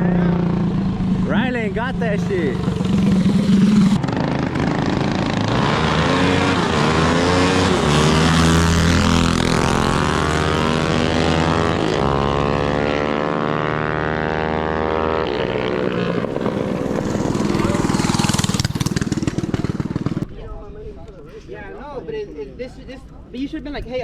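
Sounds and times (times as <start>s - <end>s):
mini bike engine revving: 0.0s - 20.3s.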